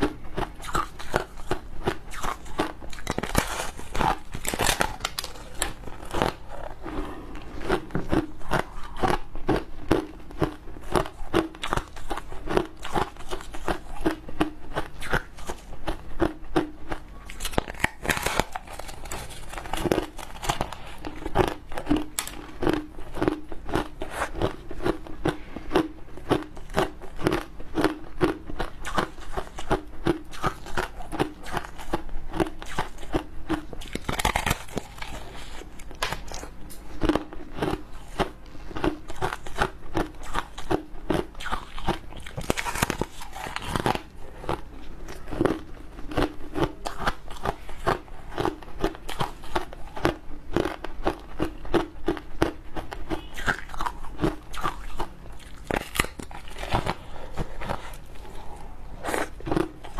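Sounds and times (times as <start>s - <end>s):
crunching and chewing ice: 0.0s - 59.9s.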